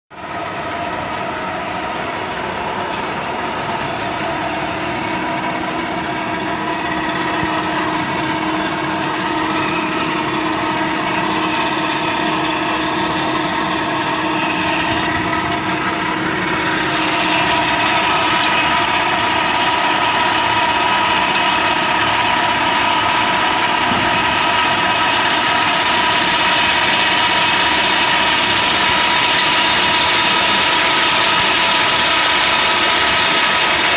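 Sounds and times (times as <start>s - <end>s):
processing plant machinery din: 0.1s - 33.9s
steady hum tones: 0.2s - 33.9s.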